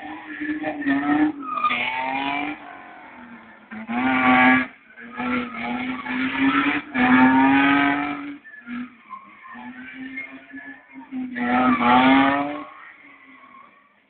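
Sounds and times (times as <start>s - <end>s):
car engine at high revs: 0.0s - 14.0s
tyres squealing: 0.0s - 14.0s.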